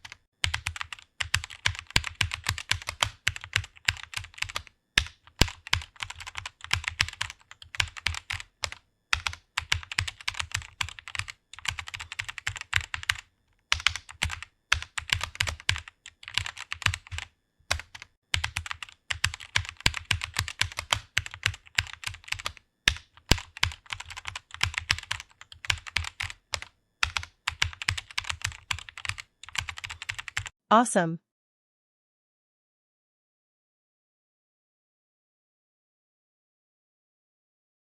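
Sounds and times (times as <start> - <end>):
computer keyboard typing: 0.0 - 30.6.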